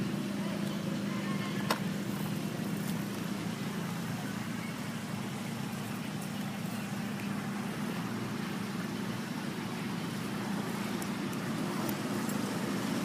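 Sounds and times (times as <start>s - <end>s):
constant hiss: 0.0s - 13.0s
low mechanical hum: 0.0s - 13.0s.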